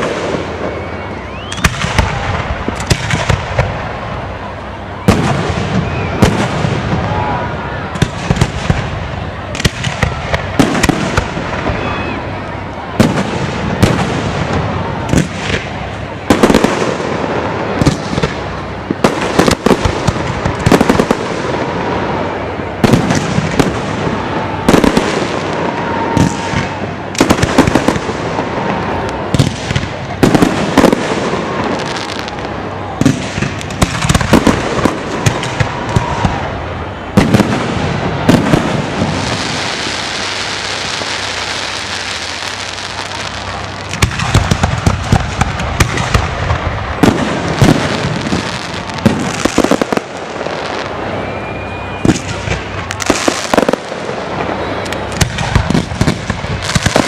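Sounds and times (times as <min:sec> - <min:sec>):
fireworks booming: 0:00.0 - 0:57.0
steady hiss: 0:00.0 - 0:57.0.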